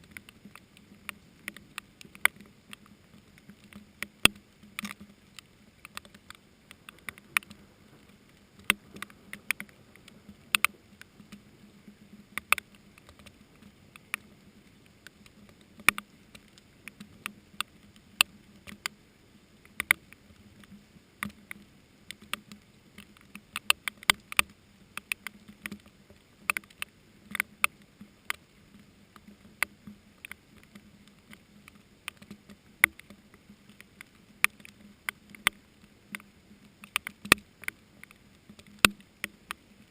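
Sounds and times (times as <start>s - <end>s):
faint steady low hum: 0.0s - 39.9s
raindrops tapping on microphone: 0.0s - 39.9s.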